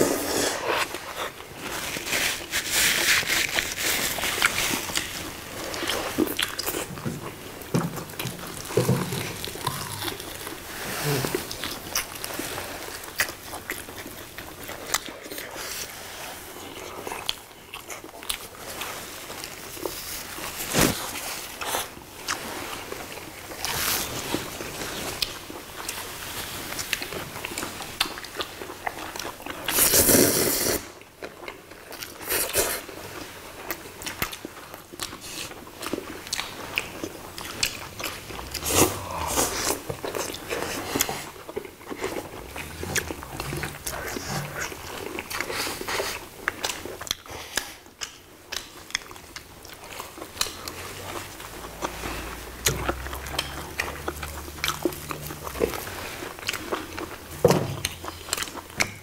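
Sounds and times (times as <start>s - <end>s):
chewing and lip smacks: 3.3s - 30.0s, 31.0s - 59.0s.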